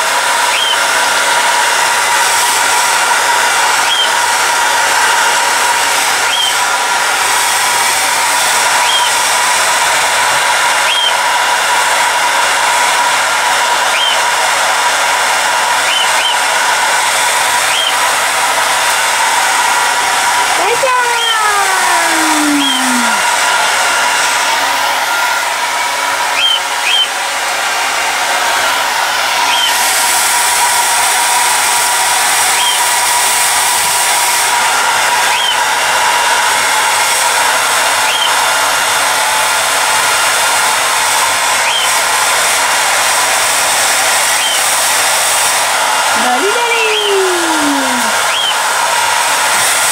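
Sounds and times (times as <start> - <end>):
hair dryer blowing: 0.0 - 49.9.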